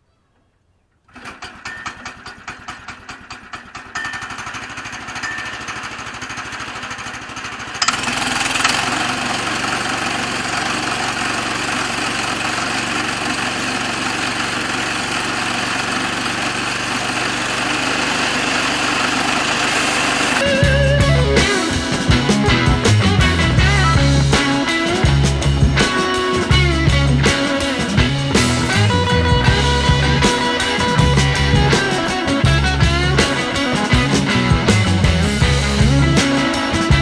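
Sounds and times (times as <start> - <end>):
small gas engine running: 1.1 - 37.0.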